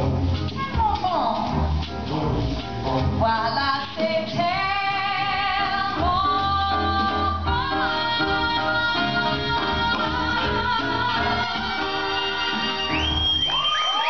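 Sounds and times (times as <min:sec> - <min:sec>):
swing band with horns: 0:00.0 - 0:14.0.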